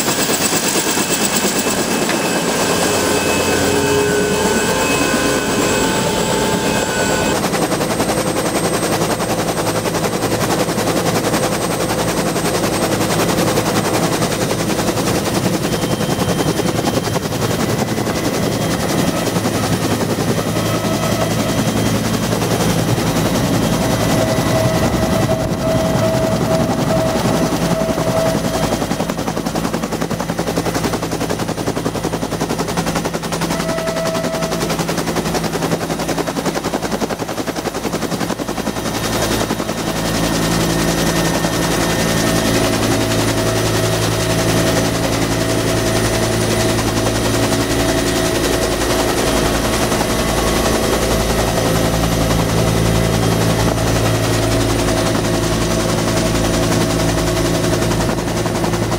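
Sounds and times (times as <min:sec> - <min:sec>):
helicopter rotor chopping: 0:00.0 - 0:58.9
turbine whine: 0:00.0 - 0:58.9.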